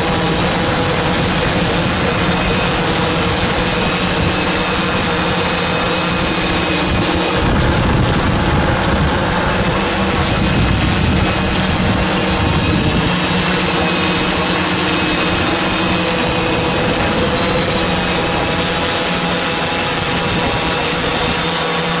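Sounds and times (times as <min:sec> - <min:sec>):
low rumble: 0:00.0 - 0:19.1
drone motors whining: 0:00.0 - 0:22.0
rushing noise: 0:00.0 - 0:22.0.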